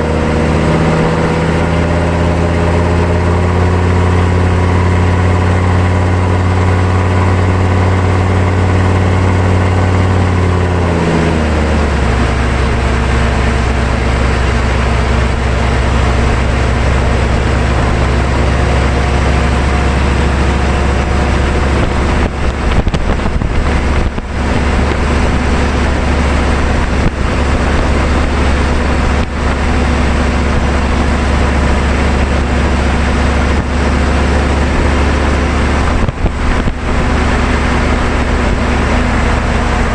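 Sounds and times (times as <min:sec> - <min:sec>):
diesel truck engine running: 0:00.0 - 0:39.9
road and wind noise: 0:00.0 - 0:39.9.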